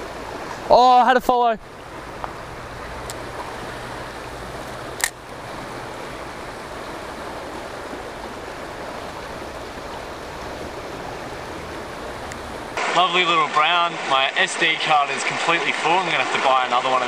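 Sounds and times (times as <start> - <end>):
river water running over riffles: 0.0 - 17.0.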